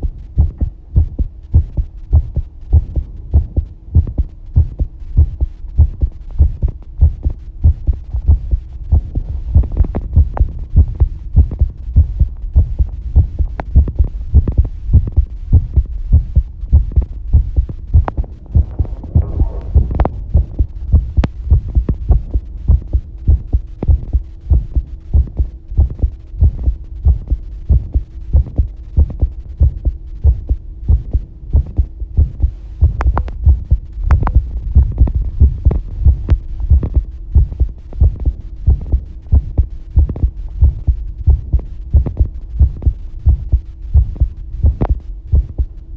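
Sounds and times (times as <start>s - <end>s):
faint steady hum: 0.0s - 45.9s
heartbeat: 0.0s - 45.9s.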